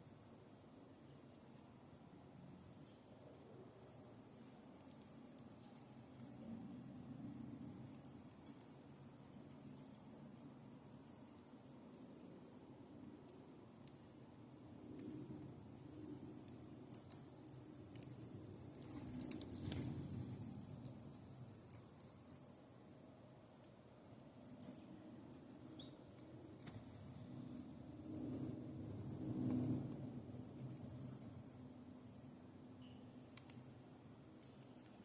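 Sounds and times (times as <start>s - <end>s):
low background rumble: 4.0s - 35.0s.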